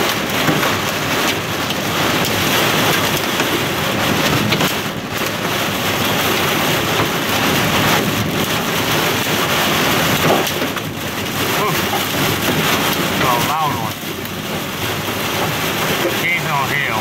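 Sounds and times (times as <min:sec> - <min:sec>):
heavy rain on car windshield: 0:00.0 - 0:17.0.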